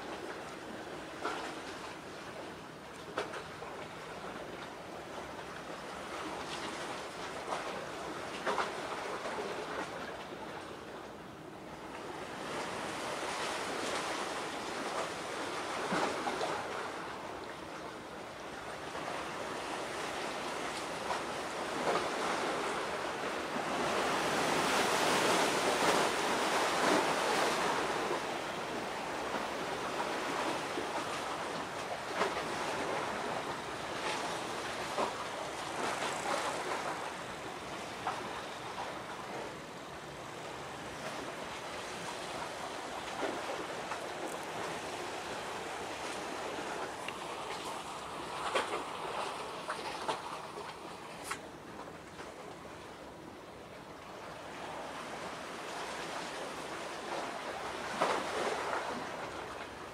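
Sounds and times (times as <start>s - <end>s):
sea waves washing on shore: 0.0s - 59.9s.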